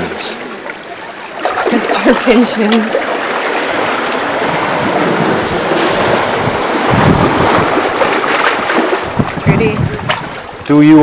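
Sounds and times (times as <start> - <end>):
surf on sandy beach: 0.0 - 11.0
wind buffeting microphone: 0.5 - 11.0.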